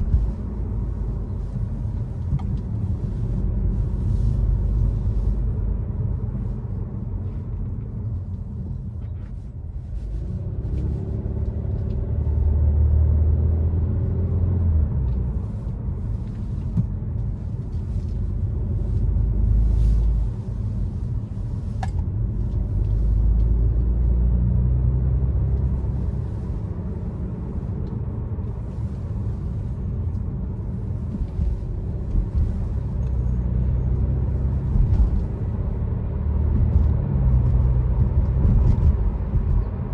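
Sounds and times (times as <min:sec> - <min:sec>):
car exhaust drone: 0:00.0 - 0:12.8, 0:14.0 - 0:39.9.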